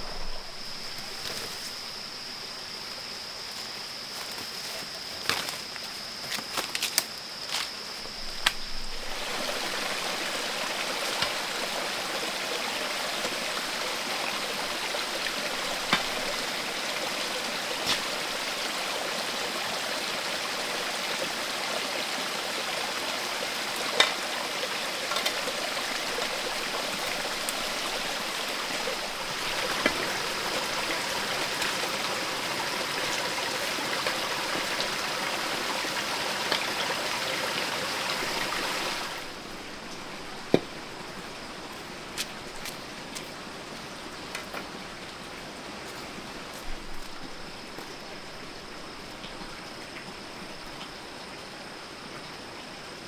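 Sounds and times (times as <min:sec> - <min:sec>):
flowing water: 0:08.7 - 0:53.0.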